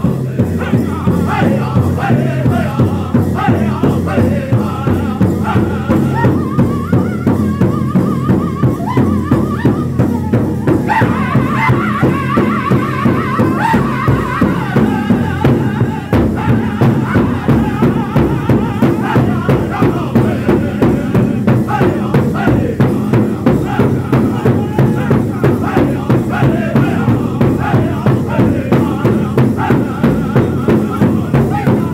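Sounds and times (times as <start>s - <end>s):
group singing in high voices: 0.0s - 31.9s
large drum beaten with sticks: 0.0s - 31.9s.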